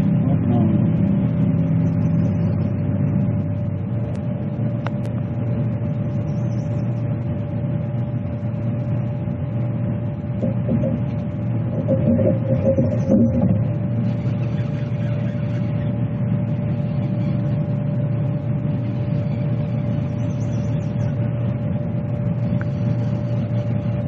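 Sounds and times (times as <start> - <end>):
engine humming steadily: 0.0 - 24.0.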